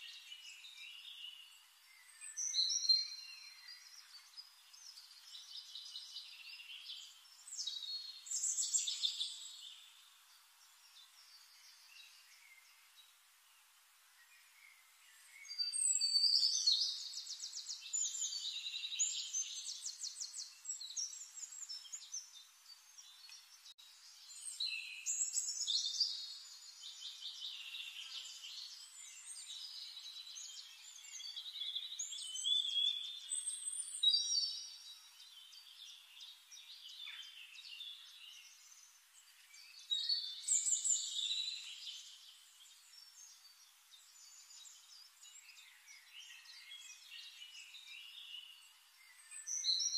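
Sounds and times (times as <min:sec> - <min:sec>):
quieter bird calls: 0:00.0 - 0:13.2, 0:14.1 - 0:49.9
songbirds warbling: 0:00.0 - 0:49.9.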